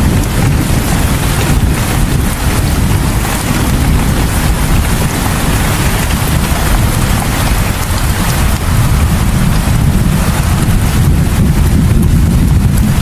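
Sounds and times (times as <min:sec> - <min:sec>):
deep rumble: 0:00.0 - 0:13.0
heavy rain hissing: 0:00.0 - 0:13.0.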